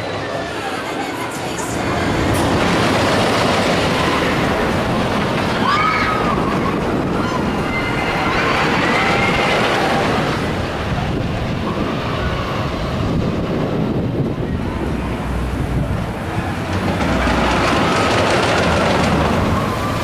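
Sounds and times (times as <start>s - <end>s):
roller coaster rumbling on wooden track: 0.0s - 20.0s.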